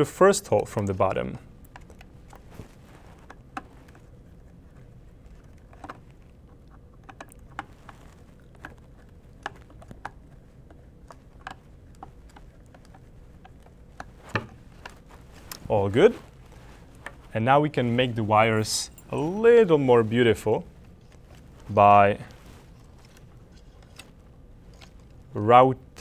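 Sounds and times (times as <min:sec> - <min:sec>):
faint room hum: 0:00.0 - 0:26.0.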